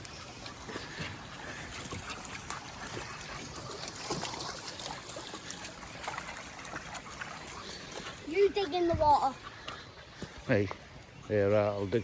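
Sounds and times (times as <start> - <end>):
water trickling in a stream: 0.0 - 12.0.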